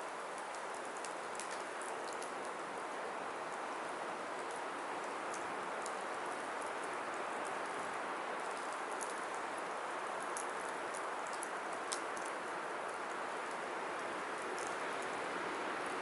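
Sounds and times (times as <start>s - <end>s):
firewood burning with crackles: 0.1s - 16.0s.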